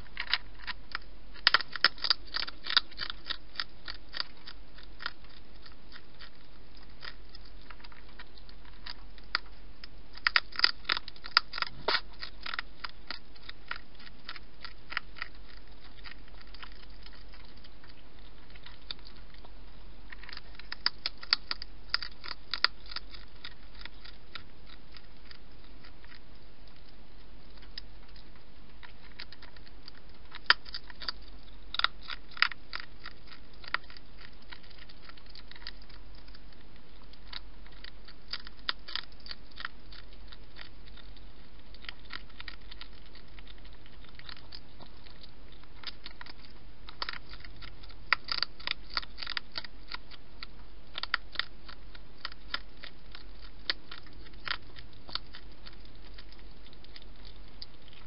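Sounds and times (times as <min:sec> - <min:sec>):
hedgehog crunching food: 0:00.0 - 0:58.0
steady low hum: 0:00.0 - 0:58.0.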